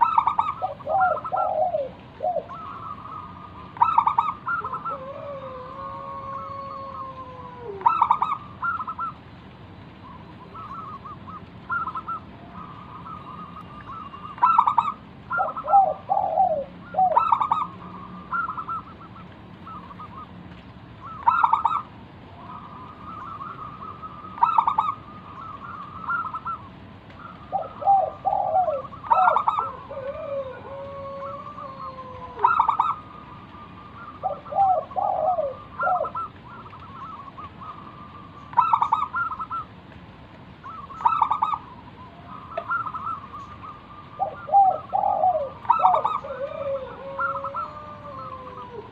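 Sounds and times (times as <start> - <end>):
dove cooing: 0.0 - 9.2, 10.0 - 20.4, 21.0 - 39.8, 40.6 - 48.9.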